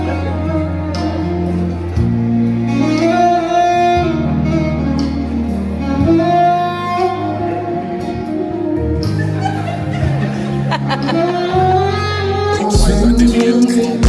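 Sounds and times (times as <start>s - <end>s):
instrumental music with bass notes: 0.0s - 14.0s.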